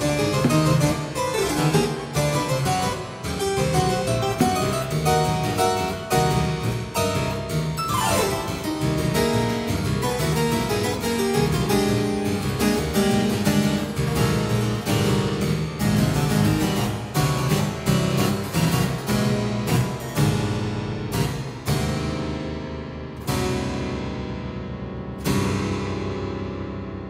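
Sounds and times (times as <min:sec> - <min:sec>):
harpsichord playing: 0:00.0 - 0:21.7.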